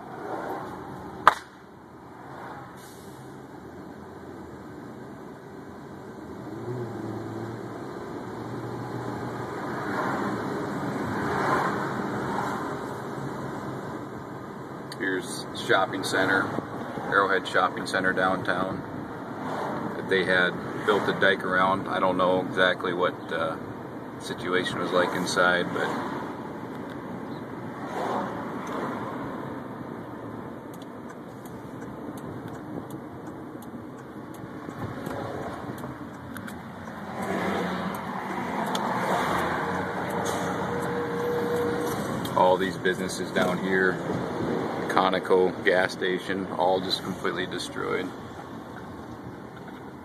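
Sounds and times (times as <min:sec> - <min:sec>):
car road and engine noise: 0:00.0 - 0:50.0.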